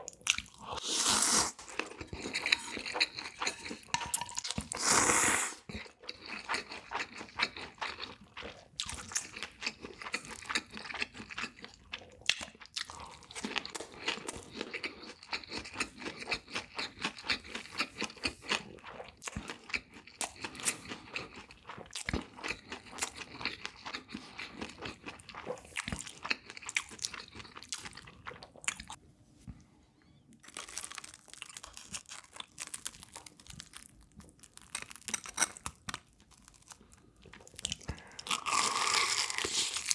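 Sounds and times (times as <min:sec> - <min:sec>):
person chewing crunchy food: 0:00.0 - 0:29.0, 0:30.4 - 0:39.9.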